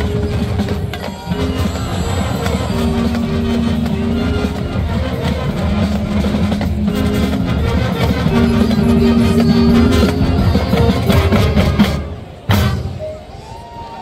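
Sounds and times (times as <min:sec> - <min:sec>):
steady drumming: 0:00.0 - 0:13.0
brass chords: 0:00.0 - 0:13.3
marching band playing: 0:00.0 - 0:13.6.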